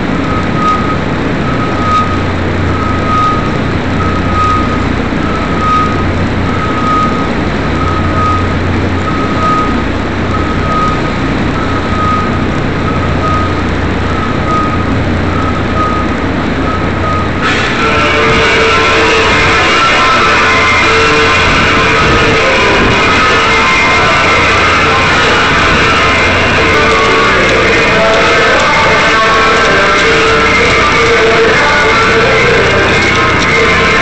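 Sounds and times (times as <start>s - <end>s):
loud engine noise: 0.0s - 34.0s
reversing alarm beeping: 0.0s - 34.0s.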